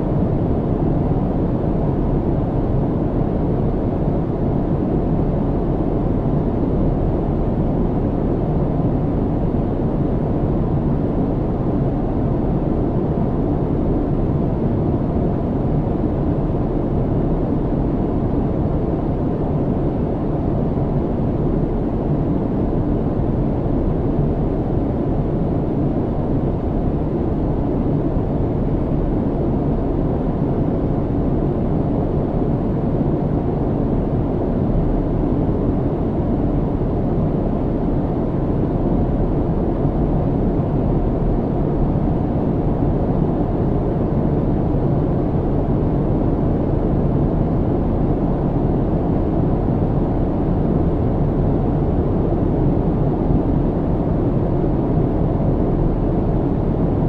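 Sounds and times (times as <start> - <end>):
airliner cabin engine rumble: 0.0 - 57.0
faint steady hum: 0.0 - 57.0.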